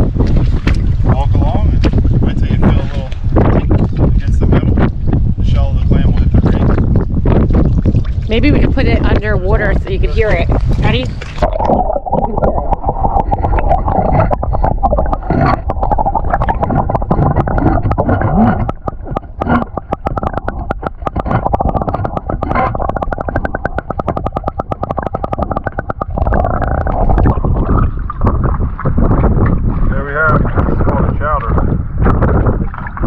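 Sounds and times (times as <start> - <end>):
underwater low rumble and gurgle: 0.0 - 33.0.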